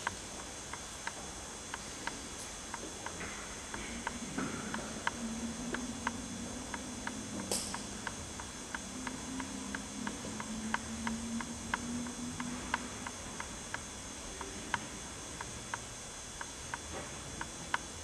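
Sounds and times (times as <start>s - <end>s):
faint ticking clicks: 0.0s - 17.9s.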